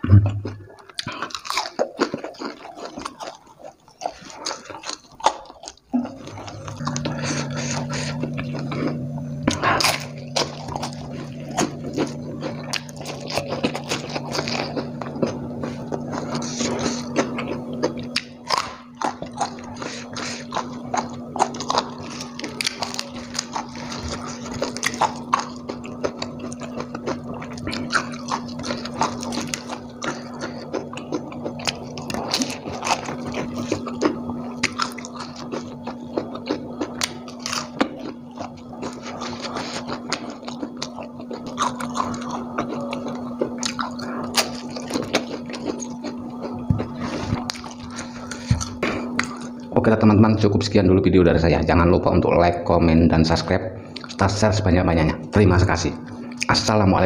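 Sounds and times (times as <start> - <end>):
wet chewing and crunching: 0.0 - 50.8, 53.2 - 57.0
steady low hum: 0.0 - 57.0.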